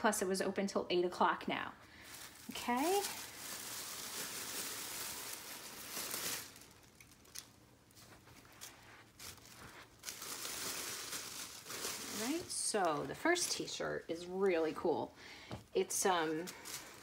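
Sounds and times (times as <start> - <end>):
plastic bag rustling: 1.9 - 15.1, 15.7 - 17.0.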